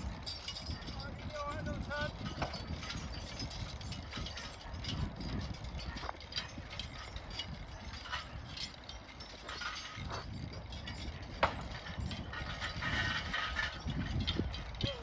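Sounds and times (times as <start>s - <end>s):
harness clinking and jangling: 0.0s - 15.0s
hooves clopping: 0.0s - 15.0s.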